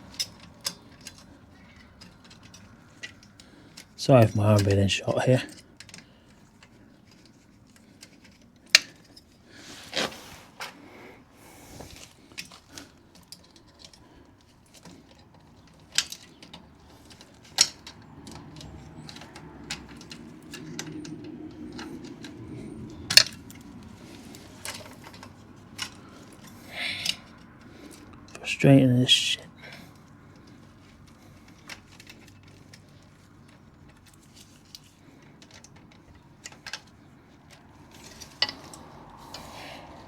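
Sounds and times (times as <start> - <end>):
metal clicks and clinks of tools: 0.0 - 9.5, 11.9 - 40.0.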